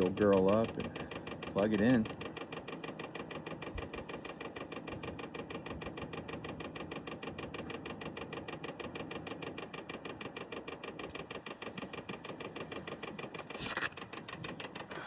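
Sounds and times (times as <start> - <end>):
fuel pump clicking rapidly: 0.0 - 15.0.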